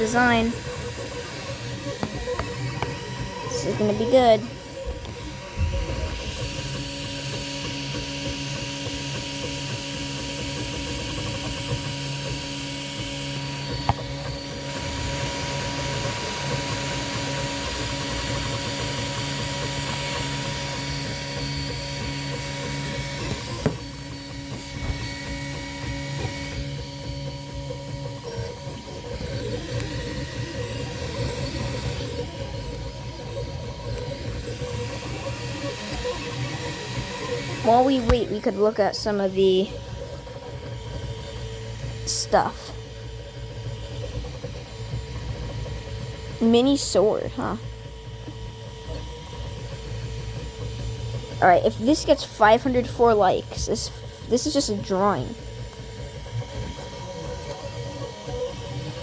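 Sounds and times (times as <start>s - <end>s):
printer motor whine: 0.0s - 59.0s.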